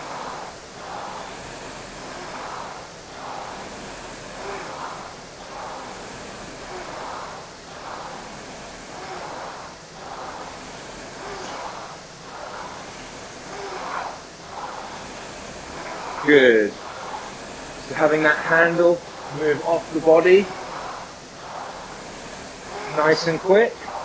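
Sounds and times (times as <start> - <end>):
rowing machine flywheel whooshing: 0.0 - 24.0.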